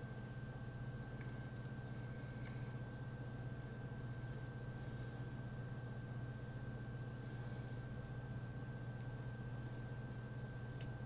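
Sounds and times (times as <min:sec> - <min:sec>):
faint high whine: 0:00.0 - 0:11.0
low electrical hum: 0:00.0 - 0:11.0.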